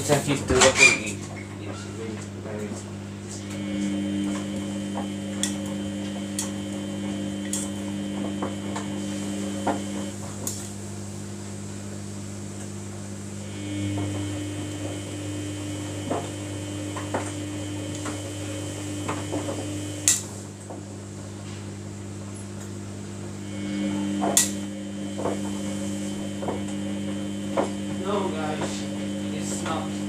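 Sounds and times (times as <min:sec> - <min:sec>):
high whine: 0:00.0 - 0:30.0
washing machine humming: 0:00.0 - 0:30.0.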